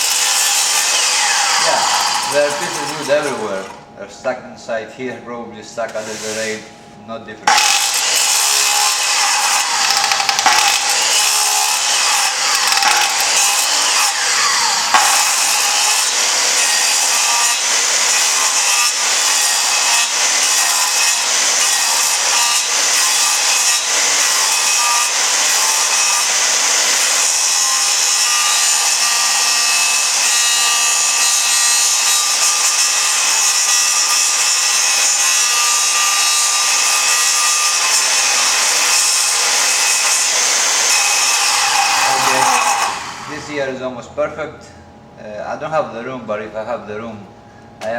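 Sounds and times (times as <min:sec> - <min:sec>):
circular saw cutting wood: 0:00.0 - 0:03.8, 0:05.9 - 0:06.7, 0:07.5 - 0:43.6.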